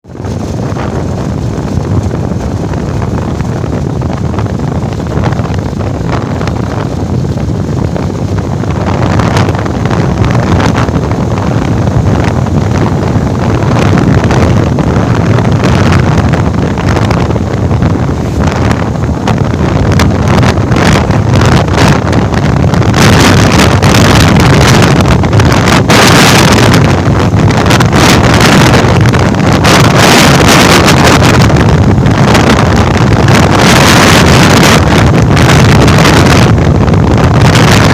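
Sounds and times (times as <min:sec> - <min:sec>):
wind buffeting on microphone: 0:00.0 - 0:37.9.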